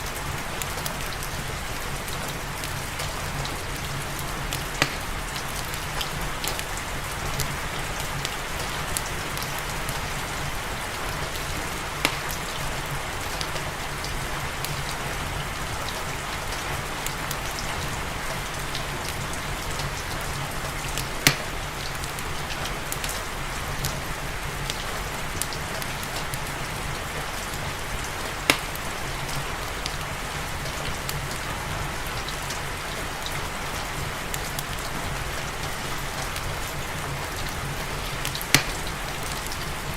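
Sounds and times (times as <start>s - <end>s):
fireplace crackling: 0.0s - 39.9s
steady rain: 0.0s - 39.9s.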